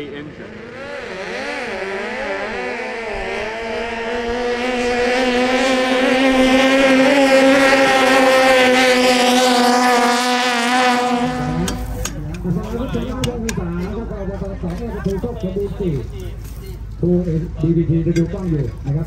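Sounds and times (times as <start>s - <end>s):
boat engines running hard: 0.0s - 19.0s.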